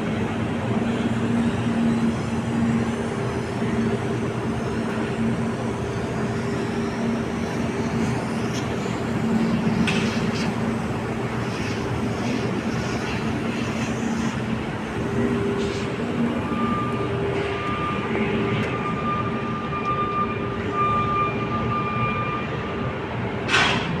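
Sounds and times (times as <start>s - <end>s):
thin whine: 0.0s - 23.5s
heavy machinery running: 0.0s - 24.0s.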